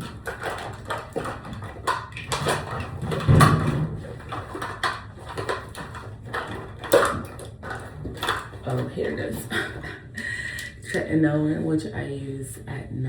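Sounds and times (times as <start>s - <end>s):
bottles clicking and knocking: 0.0s - 11.0s.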